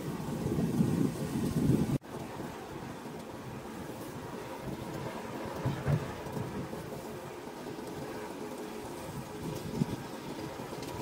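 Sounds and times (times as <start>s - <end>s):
low rumble of site noise: 0.0s - 11.0s
wind on microphone: 0.0s - 11.0s.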